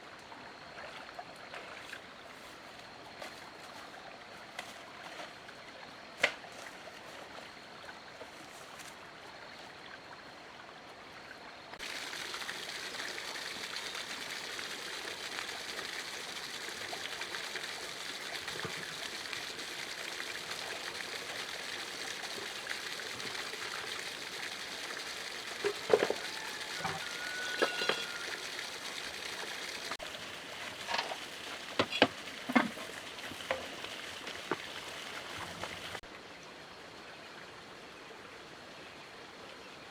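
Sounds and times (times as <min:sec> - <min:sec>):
water trickling: 0:00.1 - 0:37.6.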